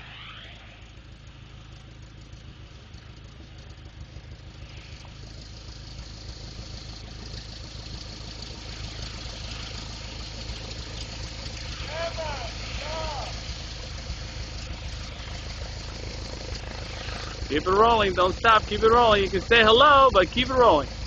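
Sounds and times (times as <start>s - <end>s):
light aircraft engine running: 0.0s - 21.0s.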